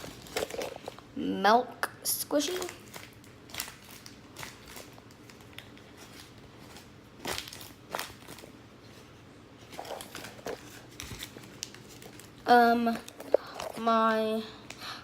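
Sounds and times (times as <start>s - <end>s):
paper and tape crinkling: 0.0s - 1.1s, 2.3s - 14.9s.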